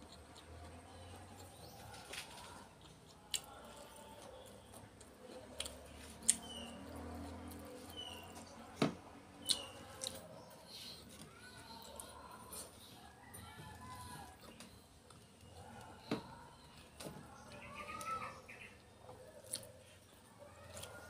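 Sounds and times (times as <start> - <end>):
person chewing food: 0.0 - 17.3, 19.1 - 21.0.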